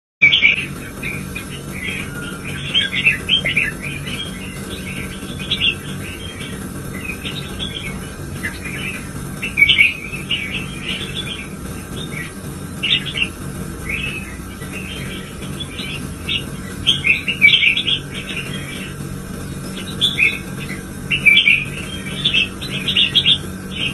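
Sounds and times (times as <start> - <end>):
bird singing warbled phrases: 0.2 - 23.9
steady low hum: 0.2 - 23.9.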